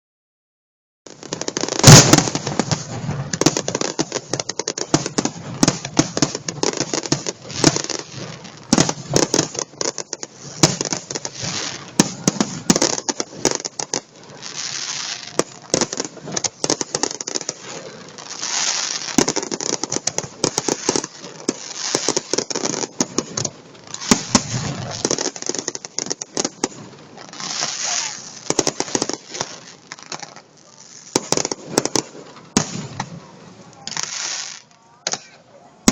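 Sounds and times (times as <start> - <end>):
fireworks bangs and crackles: 1.1 - 35.9.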